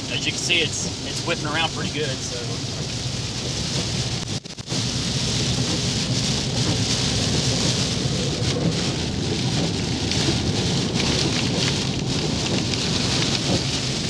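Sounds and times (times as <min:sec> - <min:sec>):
car low rumble: 0:00.0 - 0:14.0
heavy rain on car windshield: 0:00.0 - 0:14.0.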